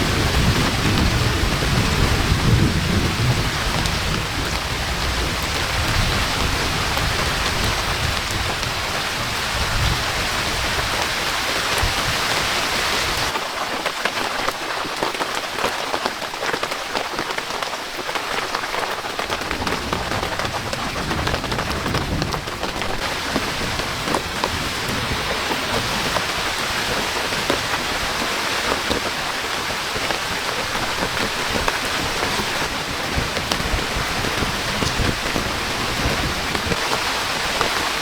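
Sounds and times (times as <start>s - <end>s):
low thunder rumble: 0.0s - 13.3s, 19.4s - 38.0s
heavy rain: 0.0s - 38.0s
raindrops hitting a surface: 0.0s - 38.0s.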